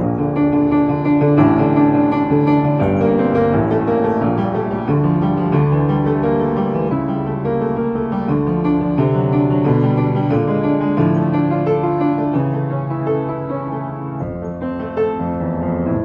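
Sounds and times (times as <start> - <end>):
piano piece: 0.0 - 16.0.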